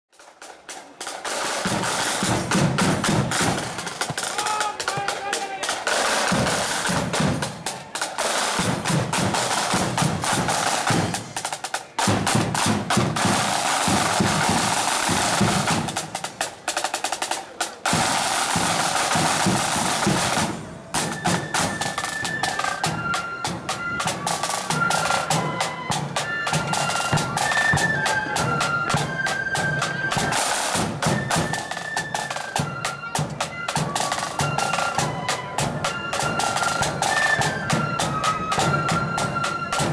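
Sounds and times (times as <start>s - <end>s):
high wind instrument melody: 0.2s - 39.9s
snare drum rolls: 0.2s - 39.9s.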